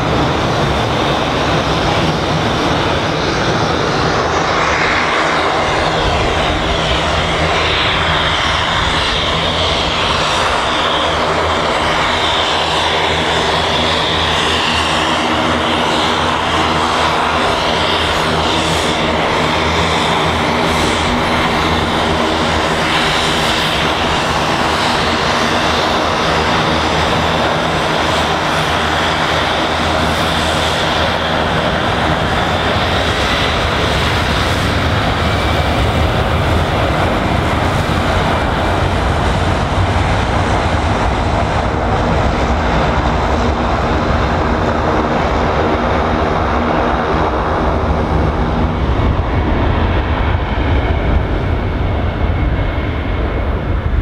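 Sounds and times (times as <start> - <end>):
jet engine roar: 0.0 - 54.0
propeller drone: 0.0 - 54.0.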